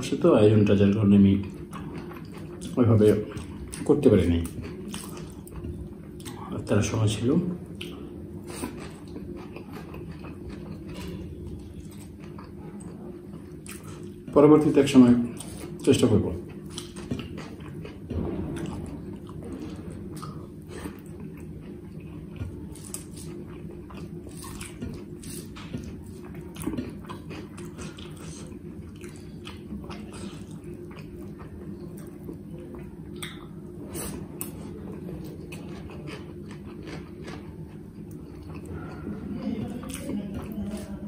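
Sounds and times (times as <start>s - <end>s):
steady low hum: 0.0s - 41.0s
chewing and mouth sounds: 1.4s - 6.6s, 7.6s - 41.0s.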